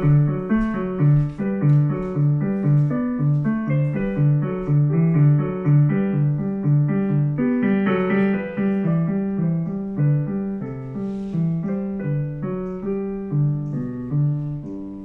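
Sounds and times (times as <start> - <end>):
digital piano lullaby: 0.0 - 15.0.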